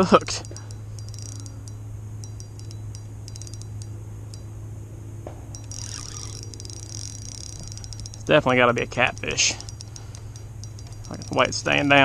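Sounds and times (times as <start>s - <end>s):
spinning reel clicking: 0.0s - 4.5s, 5.5s - 12.0s
steady low hum: 0.0s - 12.0s.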